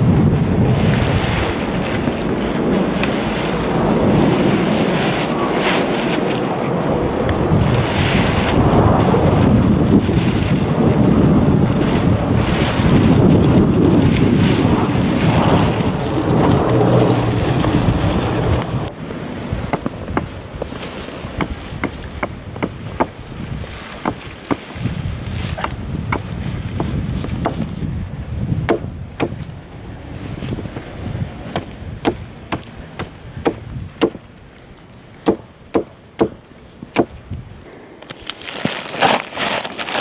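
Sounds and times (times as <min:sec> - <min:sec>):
plastic tarp rustling and crackling: 0:00.0 - 0:31.2, 0:38.0 - 0:40.0
wind rumbling on microphone: 0:00.0 - 0:40.0.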